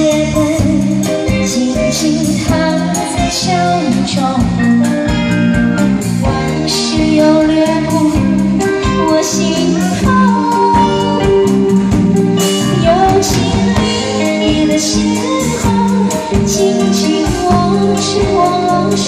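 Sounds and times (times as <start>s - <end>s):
live band playing pop song: 0.0s - 19.0s.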